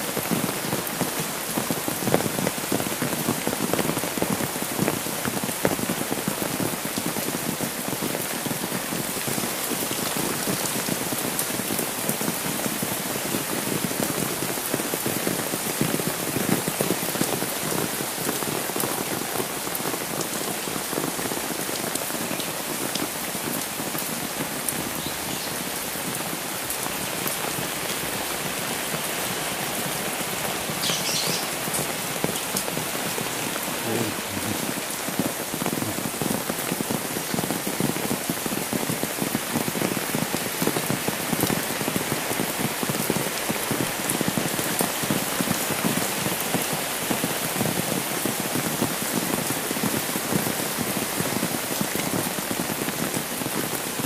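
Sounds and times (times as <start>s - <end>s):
rain falling on road: 0.0s - 54.0s
raindrops tapping on umbrella: 0.1s - 30.0s, 30.7s - 54.0s.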